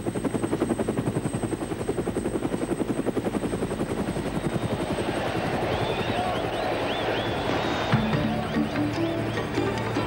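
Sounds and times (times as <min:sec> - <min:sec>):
helicopter rotor blades chopping: 0:00.0 - 0:10.0.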